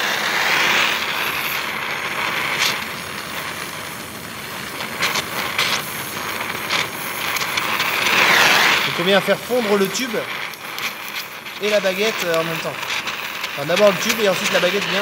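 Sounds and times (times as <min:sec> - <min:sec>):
sparks crackling: 0:00.0 - 0:15.0
welding torch hissing: 0:00.0 - 0:15.0.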